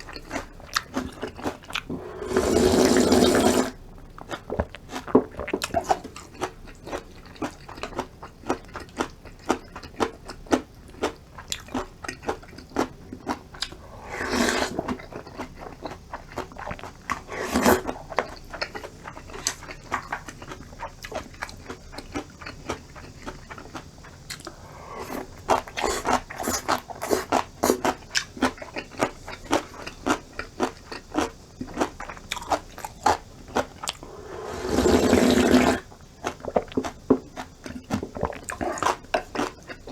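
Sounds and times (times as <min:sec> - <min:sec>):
wet chewing and crunching: 0:00.0 - 0:01.9, 0:03.7 - 0:39.9.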